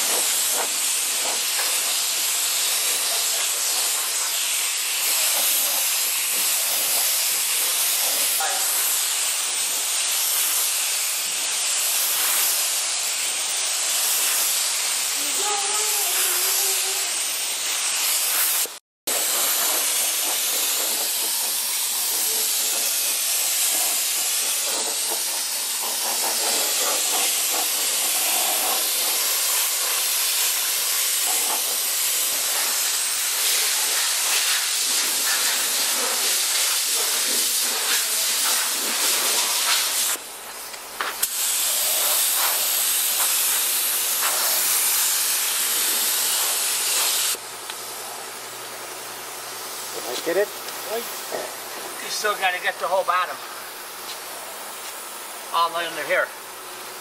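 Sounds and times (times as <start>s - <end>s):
spray gun hissing: 0.0s - 57.0s.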